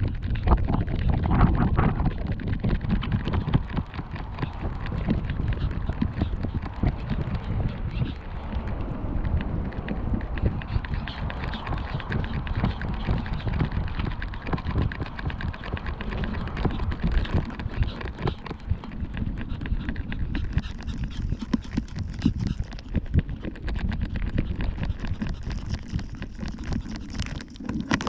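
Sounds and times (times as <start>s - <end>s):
gravel crunching: 0.0s - 28.0s
camera knocking and rubbing: 0.1s - 28.0s.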